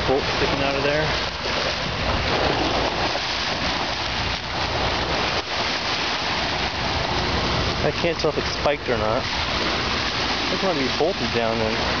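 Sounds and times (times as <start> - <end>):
small waves lapping on beach: 0.0 - 12.0.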